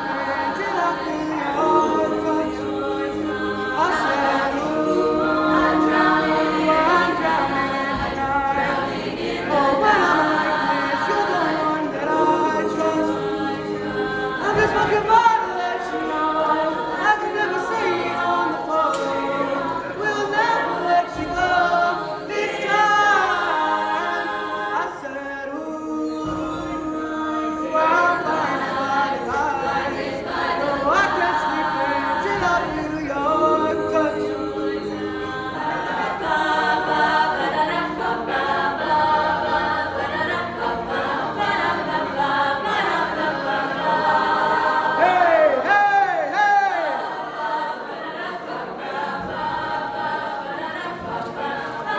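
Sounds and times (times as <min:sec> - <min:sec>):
group singing a cappella: 0:00.0 - 0:51.9.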